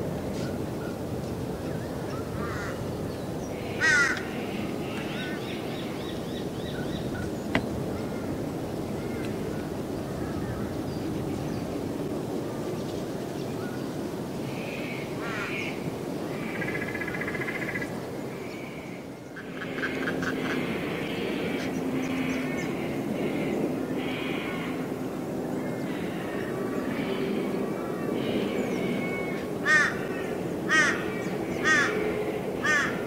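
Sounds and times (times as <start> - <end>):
wild birds calling: 0.4 - 11.8, 13.6 - 33.0.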